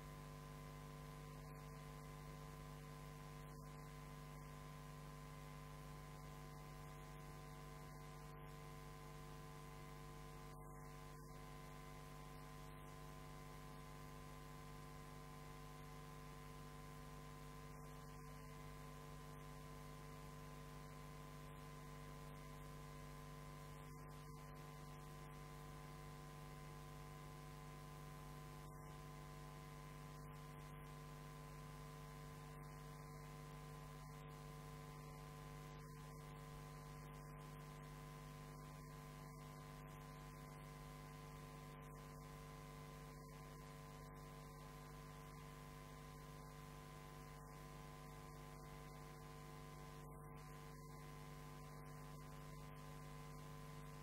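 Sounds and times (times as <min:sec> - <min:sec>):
electrical hum with hiss: 0:00.0 - 0:54.0.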